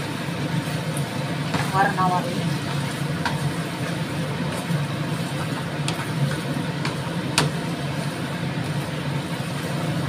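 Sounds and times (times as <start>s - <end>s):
stir-frying in a frying pan: 0.0s - 10.0s.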